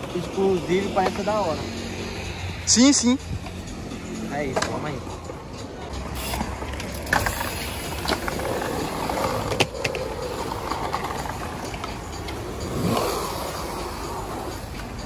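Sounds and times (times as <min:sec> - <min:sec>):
bike tyres rolling on concrete: 0:00.0 - 0:02.2, 0:04.3 - 0:15.0.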